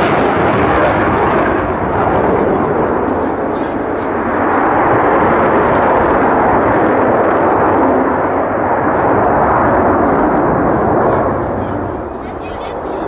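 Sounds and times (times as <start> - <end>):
aircraft engine noise: 0.0 - 13.0.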